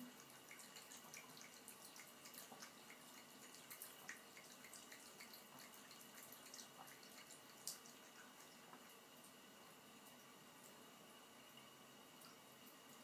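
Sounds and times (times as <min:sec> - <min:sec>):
cat lapping water: 0:00.0 - 0:10.8
thin stream of water trickling: 0:00.0 - 0:13.0.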